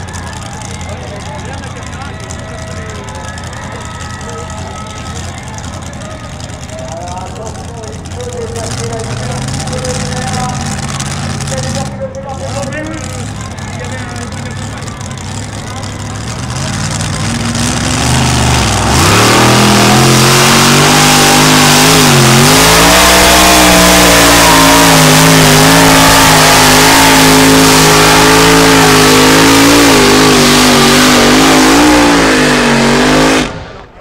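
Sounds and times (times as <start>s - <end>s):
tractor engine at full throttle: 0.0s - 34.0s.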